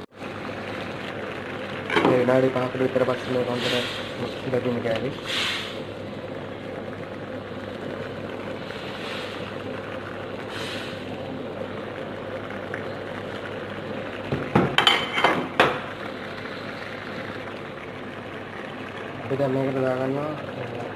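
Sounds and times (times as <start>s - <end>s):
curry bubbling in a wok: 0.1s - 20.9s.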